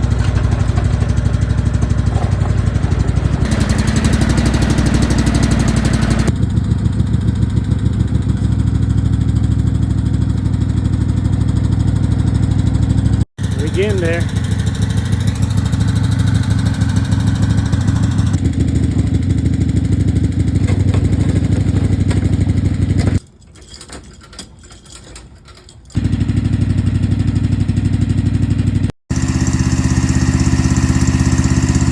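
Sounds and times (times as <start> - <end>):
garden tractor engine running: 0.0 - 23.2, 26.0 - 31.9.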